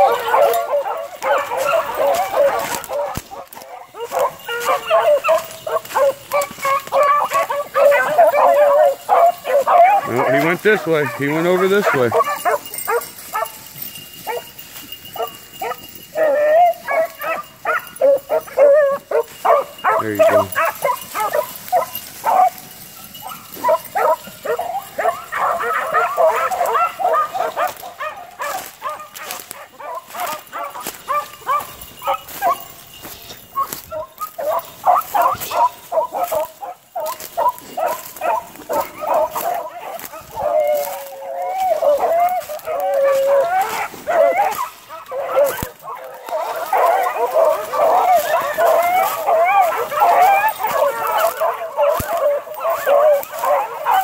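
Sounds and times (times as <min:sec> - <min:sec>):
beagles baying: 0:00.0 - 0:54.0.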